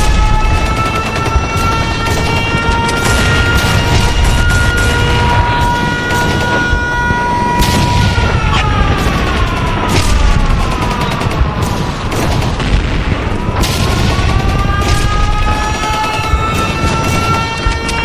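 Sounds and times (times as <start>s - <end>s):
air-raid siren wailing: 0.0s - 18.0s
explosions: 0.0s - 18.0s
gunfire: 0.0s - 18.0s.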